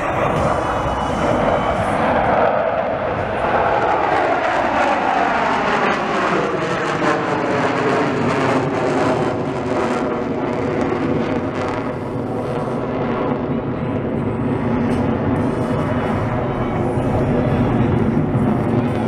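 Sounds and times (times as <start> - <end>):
propeller airplane engine drone: 0.0 - 19.0.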